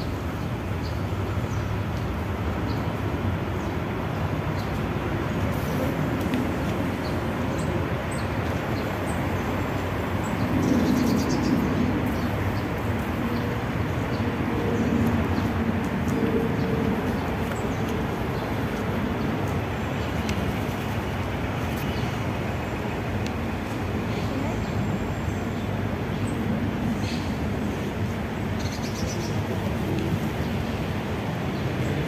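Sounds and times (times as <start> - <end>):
rushing background noise: 0.0 - 32.0.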